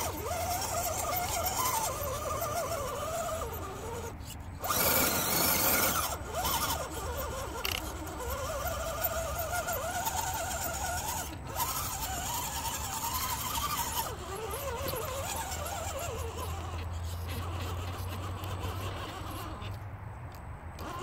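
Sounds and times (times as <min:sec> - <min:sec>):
electric motor and gears whining: 0:00.0 - 0:21.0.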